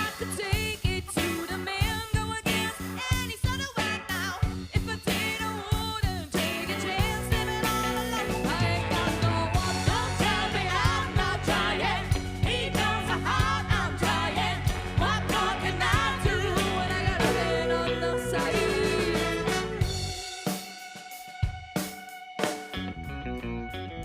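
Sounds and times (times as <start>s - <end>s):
funk band playing: 0.0s - 24.0s.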